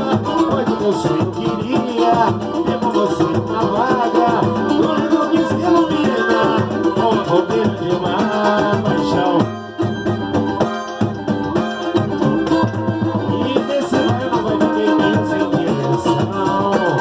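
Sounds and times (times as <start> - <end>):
shaker rhythm: 0.0 - 9.5, 10.1 - 17.0
voices singing: 0.0 - 10.3, 12.1 - 17.0
plucked strings: 0.0 - 17.0.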